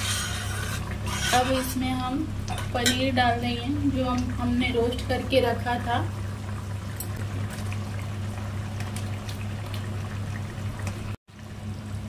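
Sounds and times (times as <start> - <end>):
gravy bubbling at a simmer: 0.0 - 12.0.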